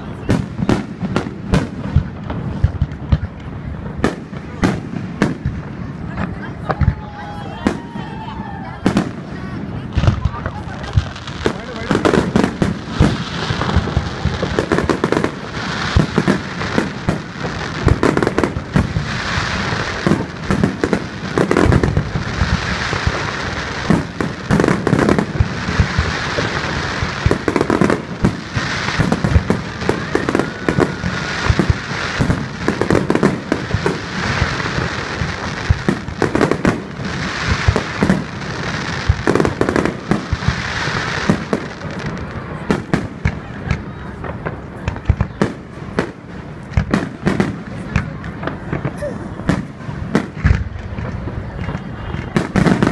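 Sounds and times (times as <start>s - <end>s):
fireworks bangs: 0.0s - 52.9s
fireworks crackling hiss: 0.0s - 52.9s.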